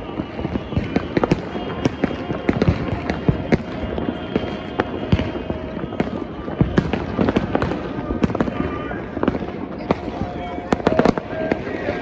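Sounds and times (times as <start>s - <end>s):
distant fireworks explosions: 0.0s - 12.0s
firecracker bangs and pops: 0.0s - 12.0s.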